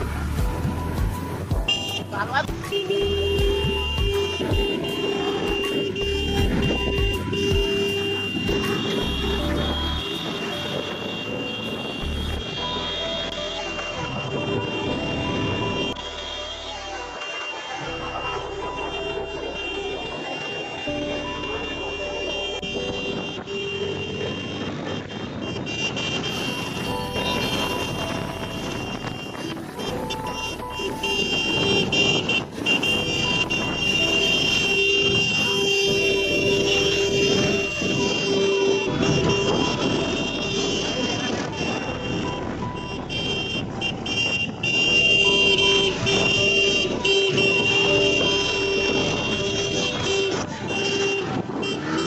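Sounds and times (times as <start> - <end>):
motorcycle engine and road rumble: 0.0 - 52.0
vehicle horns honking: 1.2 - 52.0.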